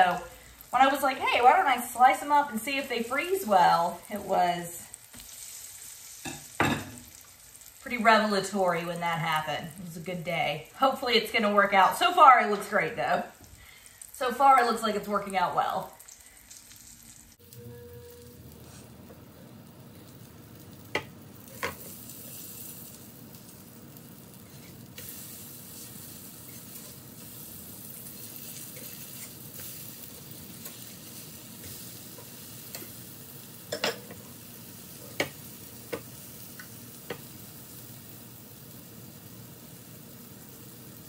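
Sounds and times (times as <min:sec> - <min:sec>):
tomato slices frying in fat: 0:00.0 - 0:41.0.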